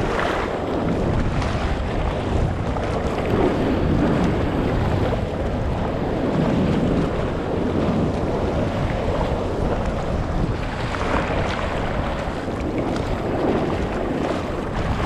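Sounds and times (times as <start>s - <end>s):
whitewater rushing: 0.0s - 15.0s
wind buffeting microphone: 0.0s - 15.0s.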